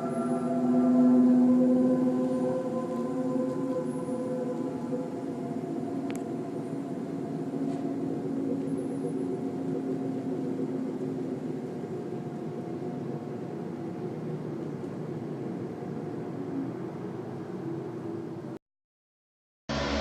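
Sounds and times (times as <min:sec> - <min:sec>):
low droning hum in sky: 0:00.0 - 0:18.6.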